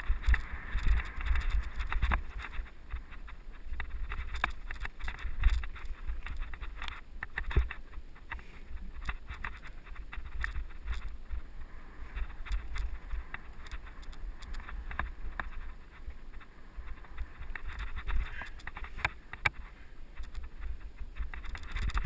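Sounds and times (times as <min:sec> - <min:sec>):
bike clicks and rattles: 0:00.0 - 0:22.0
wind rumbling on microphone: 0:00.0 - 0:22.0.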